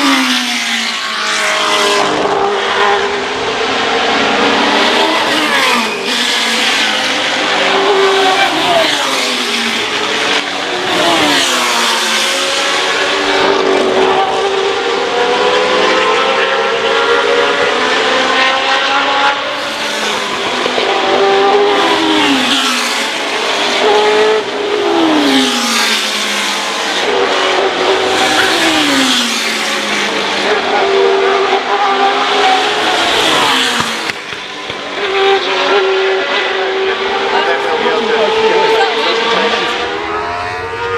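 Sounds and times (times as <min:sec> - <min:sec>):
racing car engines: 0:00.0 - 0:40.9.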